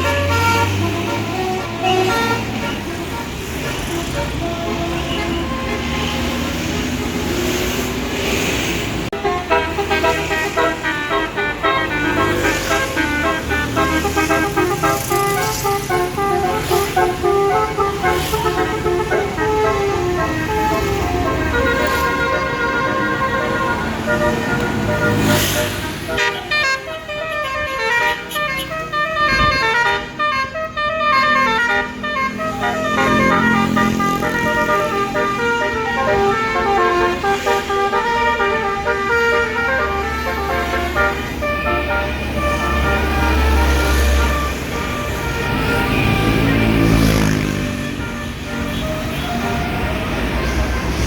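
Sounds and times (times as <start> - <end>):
bus horn playing a melody: 0.0 - 7.4, 9.1 - 51.0
road traffic noise: 0.0 - 51.0.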